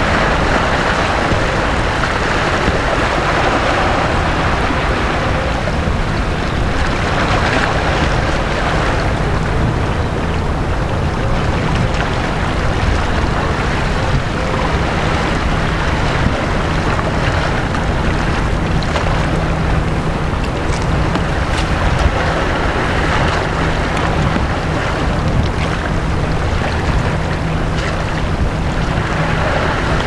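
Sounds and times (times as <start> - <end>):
waves lapping against boat: 0.0 - 30.0
wind rushing over microphone: 0.0 - 30.0.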